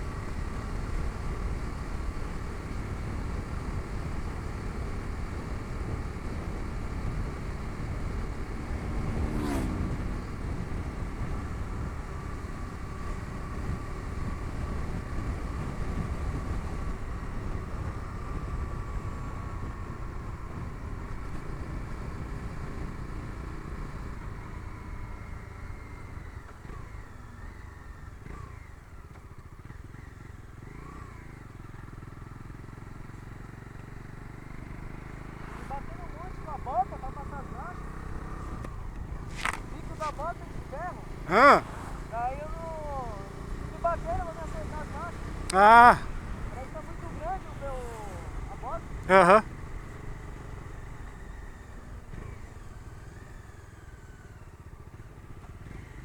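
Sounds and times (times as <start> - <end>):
motorcycle engine running: 0.0 - 56.0
road and wind rush: 0.0 - 56.0.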